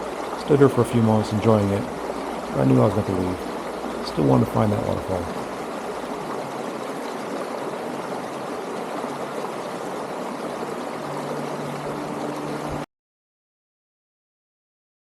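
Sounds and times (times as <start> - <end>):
creek water rushing: 0.0 - 12.9.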